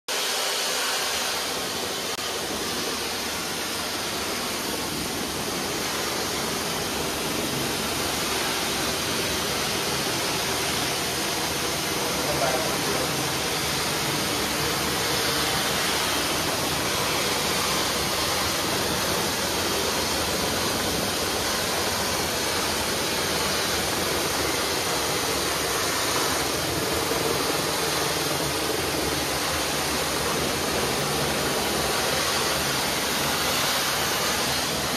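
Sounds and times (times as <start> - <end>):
hissing water spray: 0.1 - 34.9.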